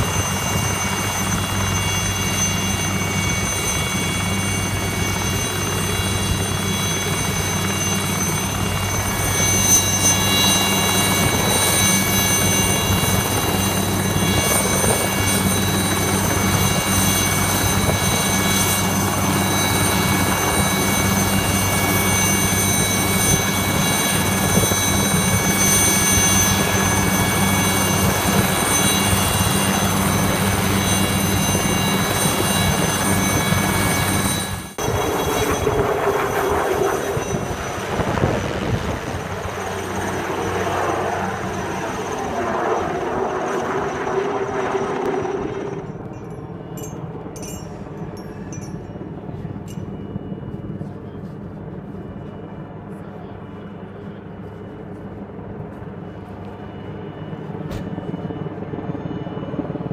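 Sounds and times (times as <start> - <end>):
helicopter rotor hum: 0.0 - 59.9
turbine whine: 0.0 - 59.9.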